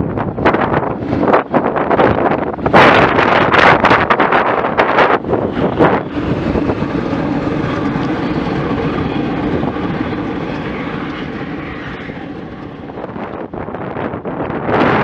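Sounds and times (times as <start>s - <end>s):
vehicle rolling drone on road: 0.0s - 15.0s
wind buffeting microphone: 0.0s - 15.0s.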